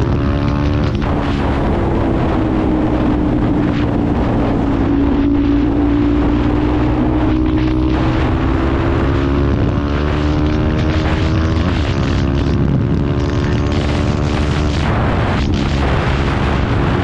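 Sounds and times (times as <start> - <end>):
motorcycle engine revving high: 0.0 - 17.0
wind rushing over microphone: 0.0 - 17.0.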